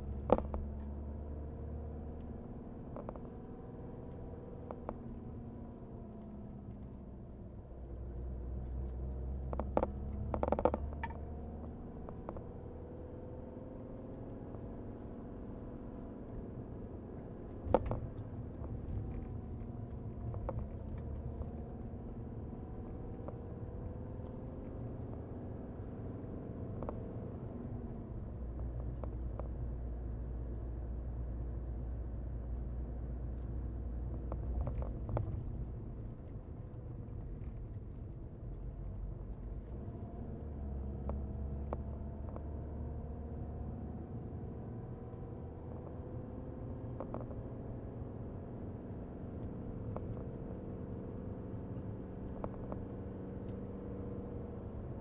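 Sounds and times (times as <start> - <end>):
diesel car engine running: 0.0 - 55.0
low road rumble: 0.0 - 55.0.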